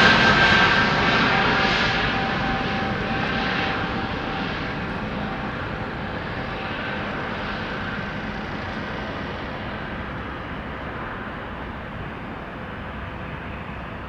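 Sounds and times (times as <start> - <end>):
aircraft engines: 0.0 - 14.0
steady engine whine: 0.0 - 14.0.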